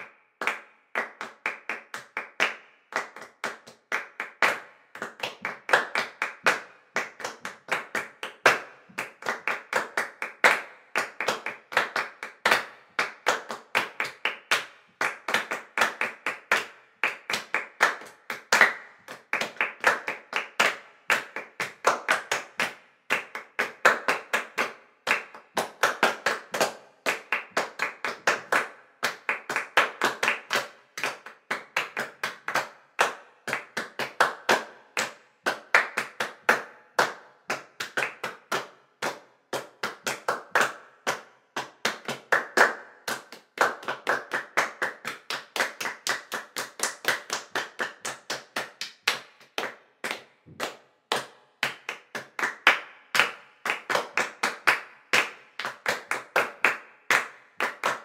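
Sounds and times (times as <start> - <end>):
rapid claps and taps: 0.0 - 58.0.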